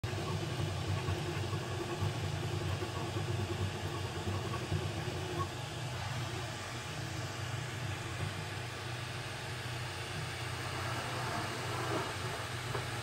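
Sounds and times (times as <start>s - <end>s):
printer stepper motors humming: 0.0s - 13.0s.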